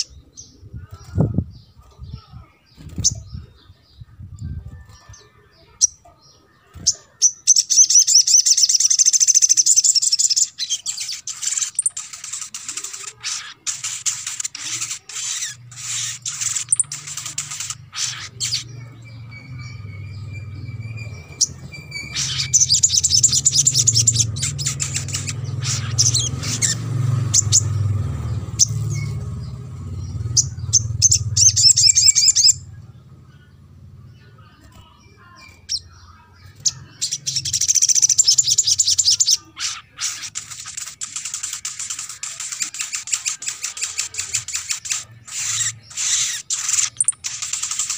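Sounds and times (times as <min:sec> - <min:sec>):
sunbird chirps and trills: 0:00.0 - 0:47.9.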